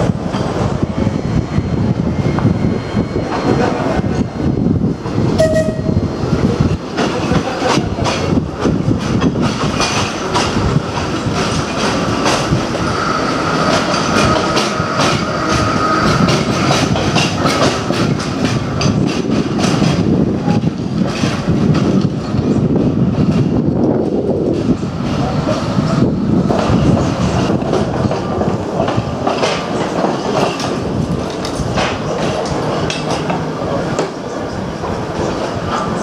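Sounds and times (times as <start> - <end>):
tram wheels clicking over rail joints: 5.0 - 36.0.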